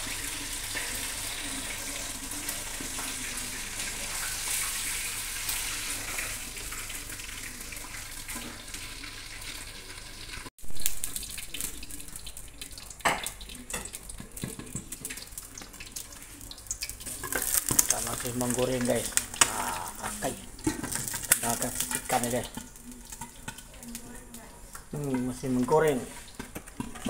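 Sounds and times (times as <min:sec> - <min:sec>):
fish sizzling in hot oil: 0:00.0 - 0:27.0
oil crackling: 0:00.0 - 0:27.0.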